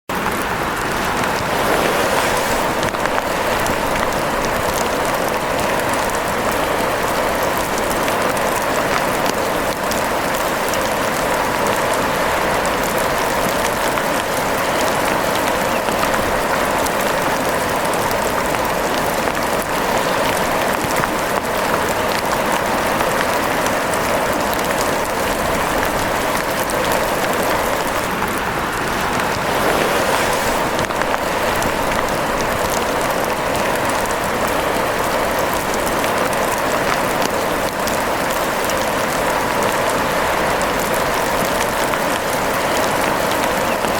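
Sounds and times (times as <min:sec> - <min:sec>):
steady rain falling: 0:00.1 - 0:43.9.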